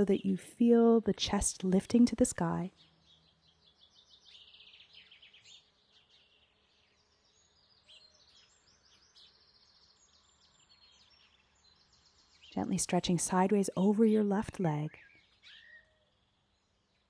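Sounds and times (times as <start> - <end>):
small birds chirping and trilling: 1.3 - 17.0.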